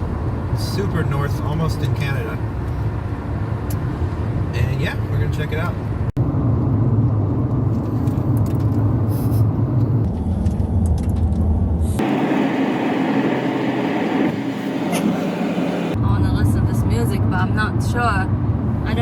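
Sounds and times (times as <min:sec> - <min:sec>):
car road noise rumble: 0:00.0 - 0:19.0.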